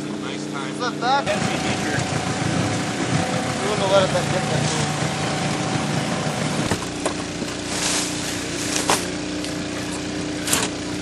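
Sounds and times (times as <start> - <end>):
boat outboard motor running: 0.0 - 11.0.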